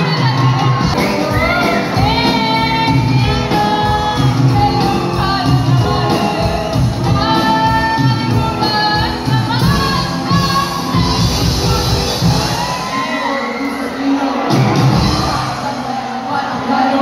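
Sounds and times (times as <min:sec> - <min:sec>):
drums: 0:00.0 - 0:17.0
woman singing into microphone: 0:00.0 - 0:17.0.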